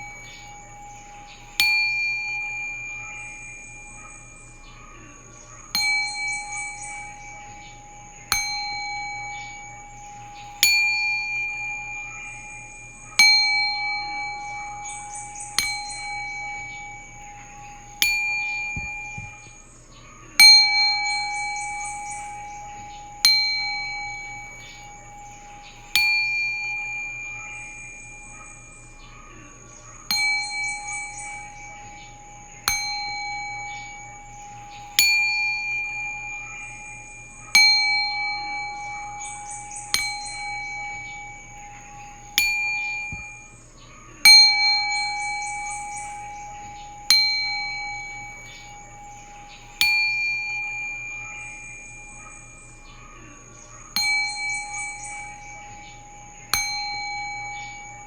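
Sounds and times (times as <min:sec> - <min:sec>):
singing bowl ringing: 0:00.0 - 0:58.0.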